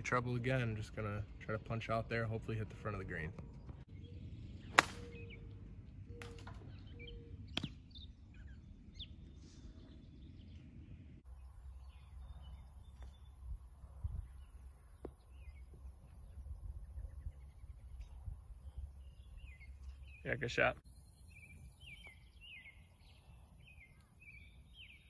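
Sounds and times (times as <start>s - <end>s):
faint birds chirping: 0.0s - 25.0s
low outdoor background noise: 0.0s - 25.0s.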